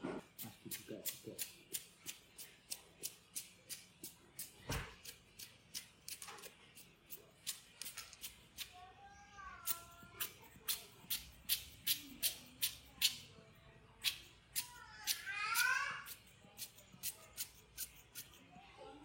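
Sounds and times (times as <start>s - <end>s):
faint music with shaker beat: 0.0s - 19.0s.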